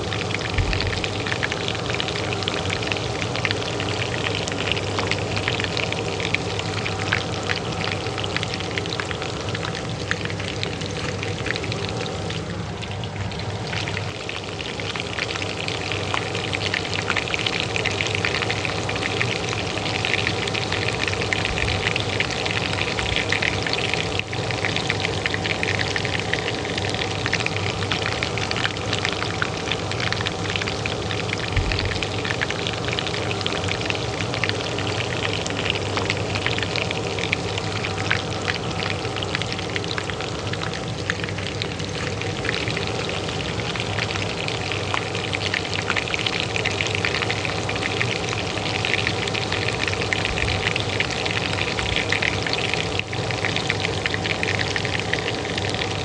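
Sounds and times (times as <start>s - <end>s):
oil sizzling in a pan: 0.0s - 56.0s
range hood fan humming: 0.0s - 56.0s.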